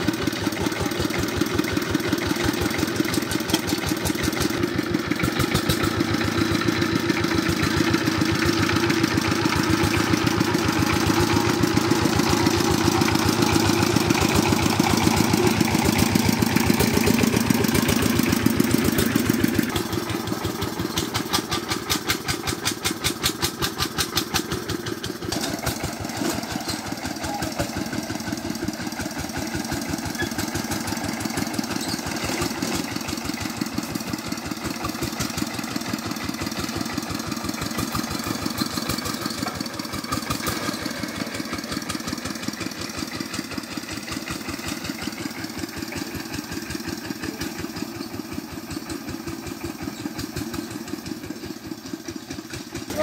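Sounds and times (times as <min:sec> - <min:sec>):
diesel tractor engine chugging: 0:00.0 - 0:53.0.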